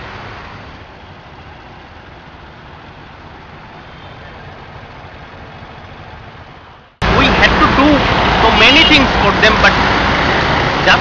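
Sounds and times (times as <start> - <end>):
low engine rumble: 0.0 - 10.9.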